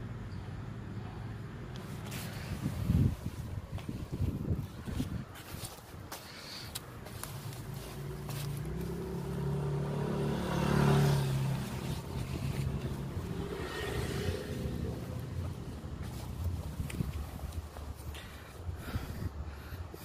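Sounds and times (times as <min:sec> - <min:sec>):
vehicle passing by: 0:00.6 - 0:20.0.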